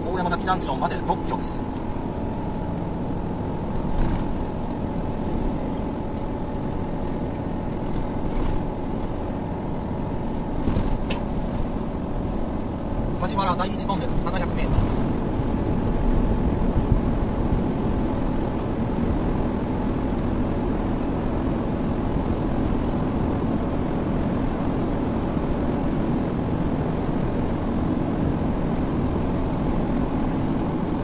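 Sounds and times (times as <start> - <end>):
car road noise from inside: 0.0 - 31.0.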